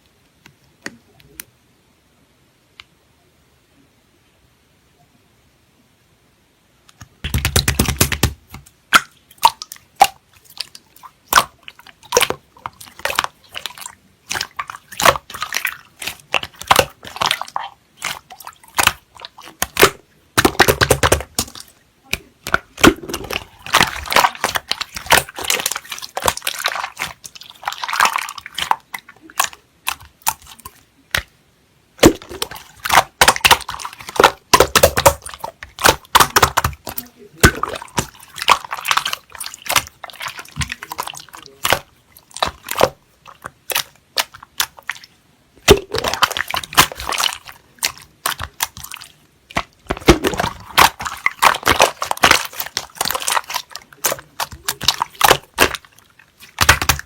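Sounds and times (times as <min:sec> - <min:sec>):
slime squelching and popping: 0:07.0 - 0:31.4, 0:32.0 - 0:57.0.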